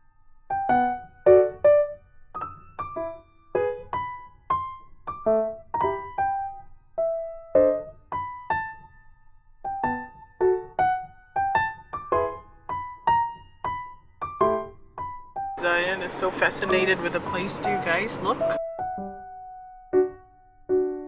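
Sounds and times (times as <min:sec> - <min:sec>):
light piano melody: 0:00.0 - 0:21.0.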